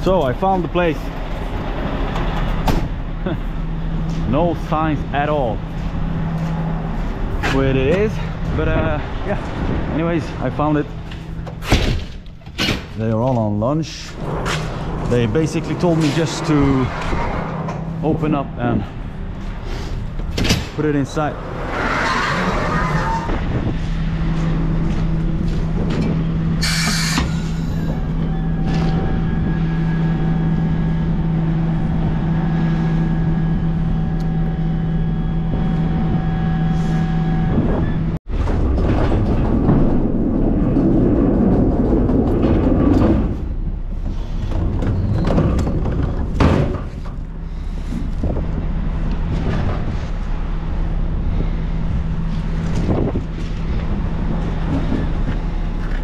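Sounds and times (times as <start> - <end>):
heavy truck engine humming: 0.0 - 12.6, 13.4 - 20.4, 21.0 - 38.8, 43.4 - 56.0
rumble with knocks and clatter: 0.0 - 56.0.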